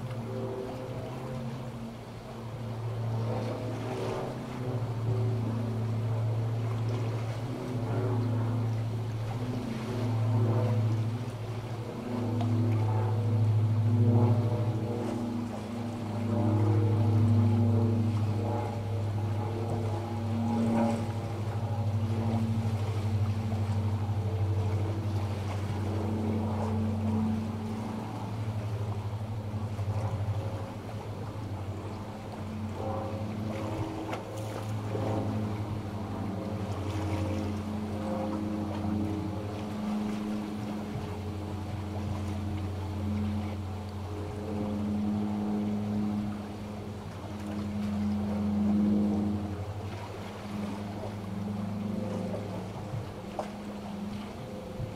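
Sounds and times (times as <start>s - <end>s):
airplane engine droning: 0.0s - 54.9s
faint sea waves: 0.0s - 54.9s.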